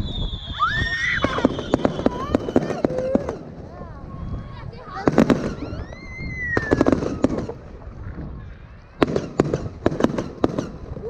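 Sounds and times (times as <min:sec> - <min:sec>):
firework whistle: 0:00.0 - 0:04.5, 0:05.1 - 0:07.6, 0:08.9 - 0:11.0
firework bangs: 0:00.0 - 0:11.0.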